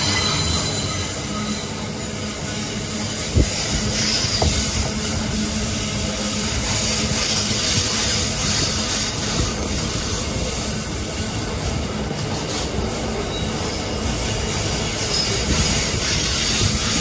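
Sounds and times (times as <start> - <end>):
wagons rolling on rails: 0.0 - 17.0.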